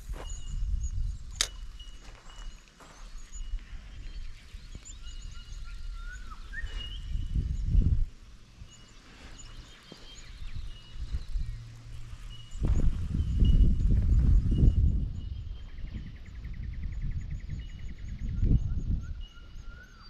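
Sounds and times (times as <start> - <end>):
birds chirping and whistling: 0.0 - 20.0
low microphone rumble: 3.4 - 19.7.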